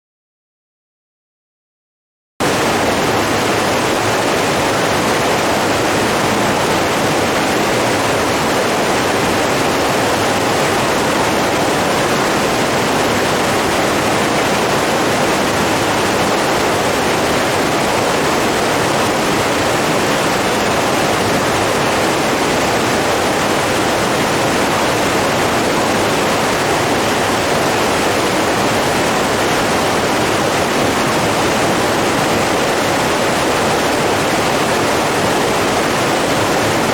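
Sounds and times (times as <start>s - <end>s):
running water: 2.4s - 36.9s.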